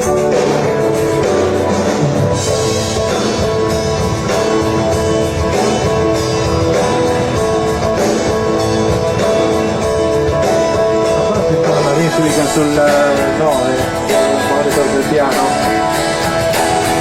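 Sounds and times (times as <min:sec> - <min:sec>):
drums: 0:00.0 - 0:17.0
guitar: 0:00.0 - 0:17.0.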